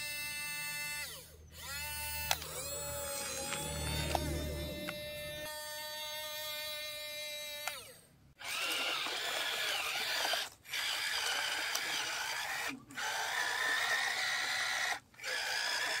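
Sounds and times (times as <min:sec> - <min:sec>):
toy gear motors whirring: 0:00.0 - 0:16.0.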